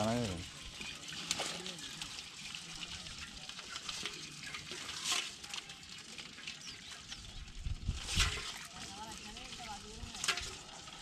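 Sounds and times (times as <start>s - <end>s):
fine crackling patter: 0.0s - 11.0s.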